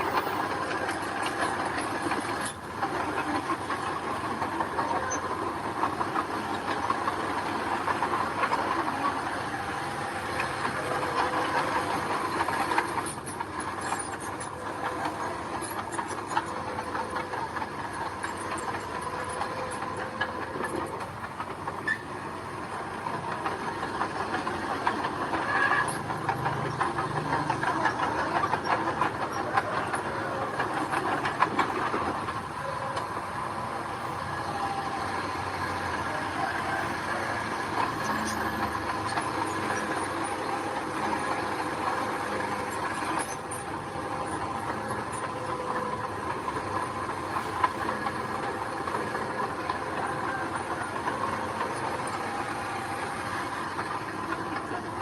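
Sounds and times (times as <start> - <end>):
diesel engine running: 0.0 - 55.0
steel tracks clattering and squealing: 0.0 - 55.0.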